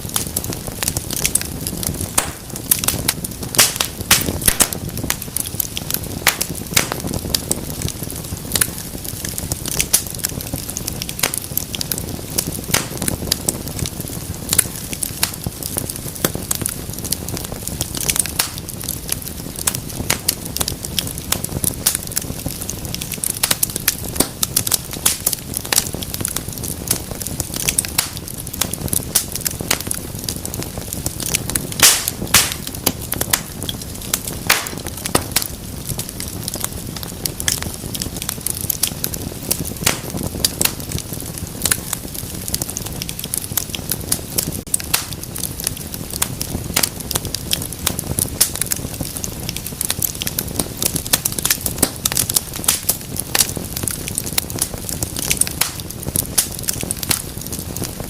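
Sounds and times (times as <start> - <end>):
flames rushing: 0.0 - 58.0
wood popping and crackling: 0.0 - 58.0.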